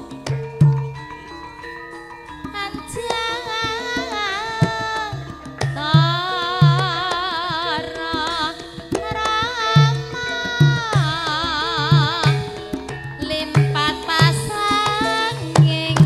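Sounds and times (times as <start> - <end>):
sustained metallophone tones: 0.0 - 16.0.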